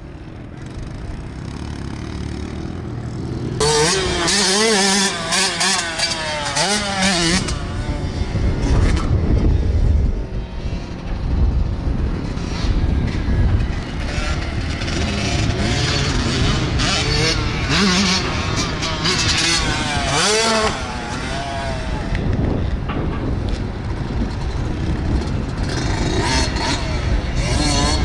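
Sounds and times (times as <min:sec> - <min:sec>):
rough low engine sound: 0:00.0 - 0:28.0
dirt bike engine revving: 0:00.5 - 0:22.8, 0:23.8 - 0:28.0.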